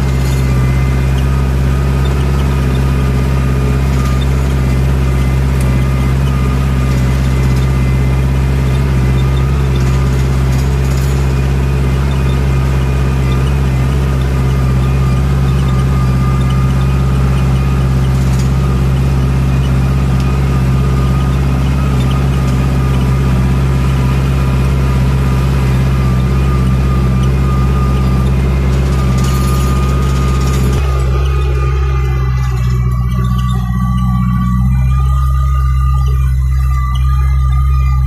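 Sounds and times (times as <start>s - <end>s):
high steady whine: 0.0s - 38.0s
tractor diesel engine droning: 0.0s - 38.0s.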